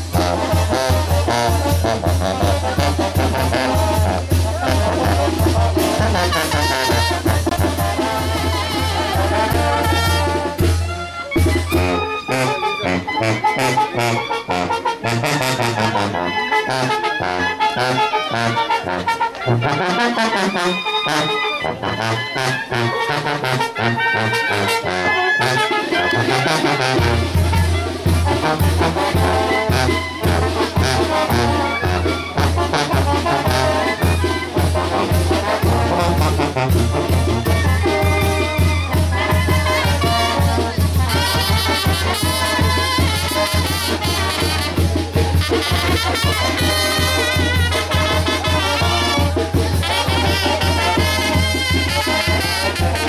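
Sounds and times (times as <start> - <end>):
brass band music: 0.0 - 53.0.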